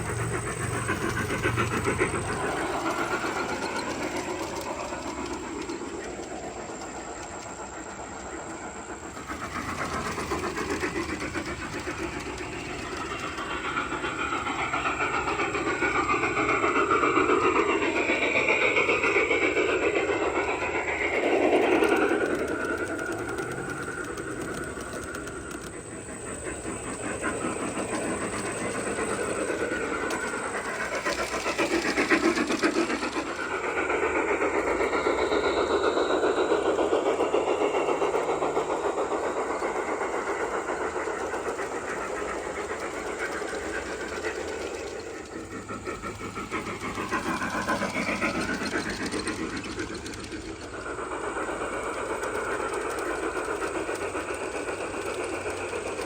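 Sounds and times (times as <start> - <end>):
model train wheels clicking on rails: 0.0 - 56.0.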